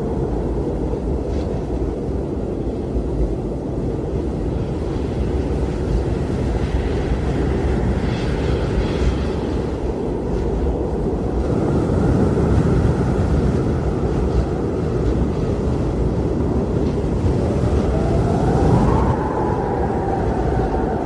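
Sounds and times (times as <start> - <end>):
blizzard wind rushing: 0.0 - 21.0
whistling wind howl: 0.0 - 21.0.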